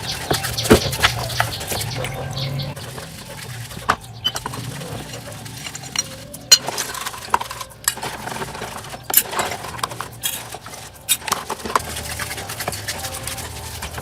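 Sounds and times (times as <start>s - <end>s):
small metal objects clinking: 0.0s - 14.0s.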